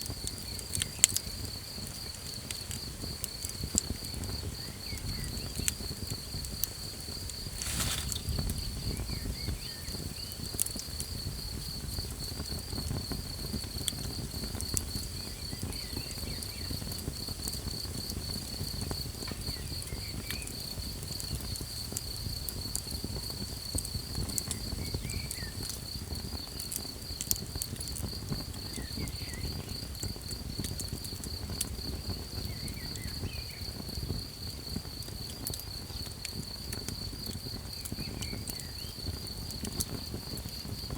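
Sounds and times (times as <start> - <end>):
campfire crackling and popping: 0.0 - 40.9
night insects trilling: 0.0 - 40.9.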